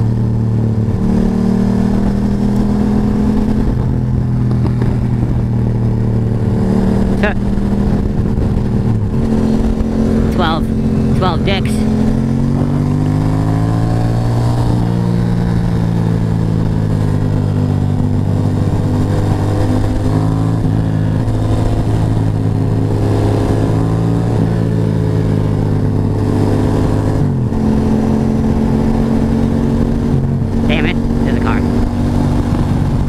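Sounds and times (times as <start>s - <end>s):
motorcycle engine cruising: 0.0s - 33.0s
wind noise: 0.0s - 33.0s.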